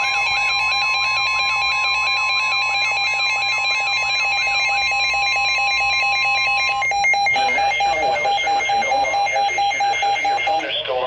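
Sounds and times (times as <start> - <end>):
steady electronic tones: 0.0 - 11.0.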